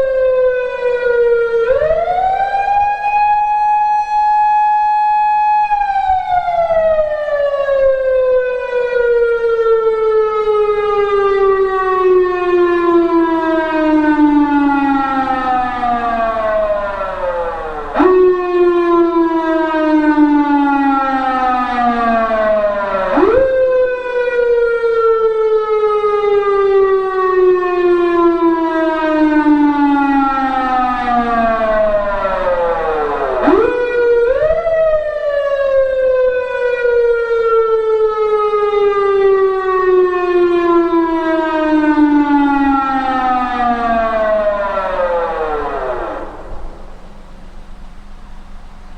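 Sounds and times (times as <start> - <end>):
electronic motor siren: 0.0 - 48.8.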